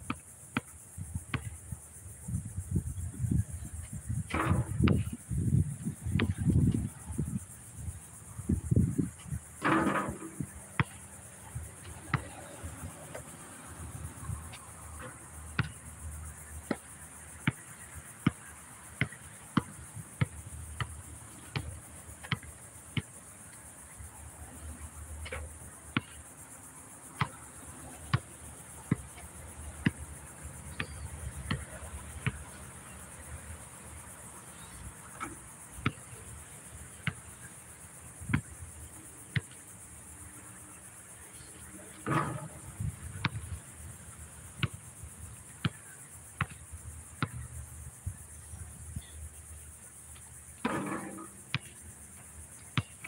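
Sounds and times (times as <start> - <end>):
high insect buzz: 0.0 - 53.0.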